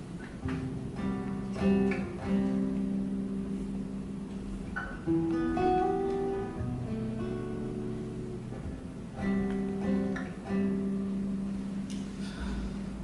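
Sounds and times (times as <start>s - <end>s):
acoustic guitar chords ringing: 0.0s - 13.0s.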